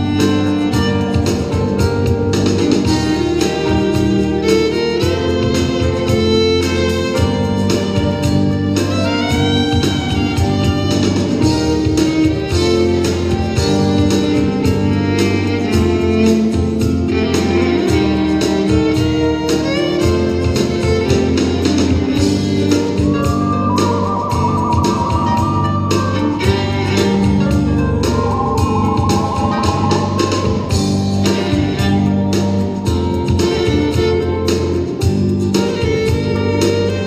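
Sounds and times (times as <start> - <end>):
fiddle melody with sliding notes: 0.0 - 37.0
steady drum beat: 0.0 - 37.0
sustained bass: 0.0 - 37.0.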